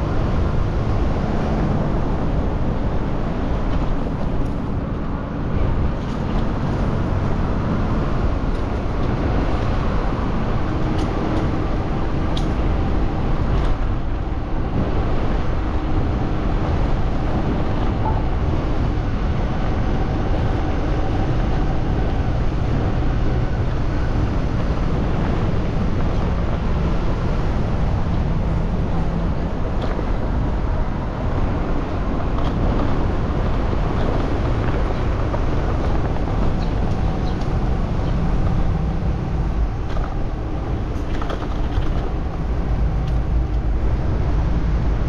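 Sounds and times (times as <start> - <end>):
city traffic rumble: 0.0 - 45.0.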